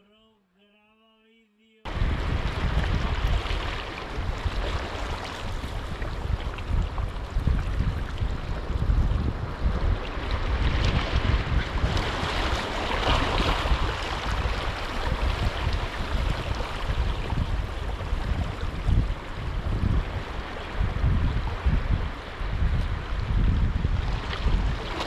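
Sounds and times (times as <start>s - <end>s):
sea waves washing in: 1.9s - 23.3s
wind buffeting microphone: 1.9s - 25.0s.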